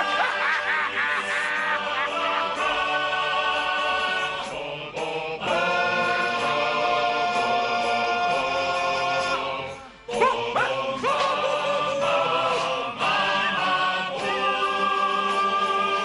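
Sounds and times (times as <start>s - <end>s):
voices singing held chant notes: 0.0s - 16.0s.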